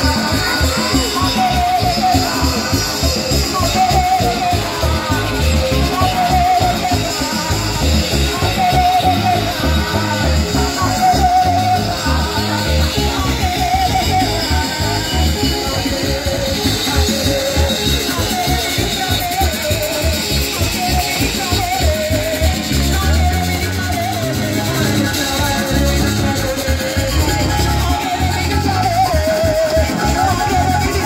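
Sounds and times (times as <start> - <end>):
drums: 0.0 - 31.0
guitar: 0.0 - 31.0
women singing into microphones: 0.0 - 31.0.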